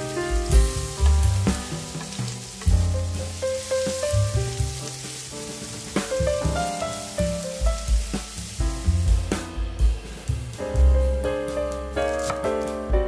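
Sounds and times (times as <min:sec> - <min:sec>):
onion sizzling in oil: 0:00.0 - 0:10.8
background music: 0:00.0 - 0:13.0.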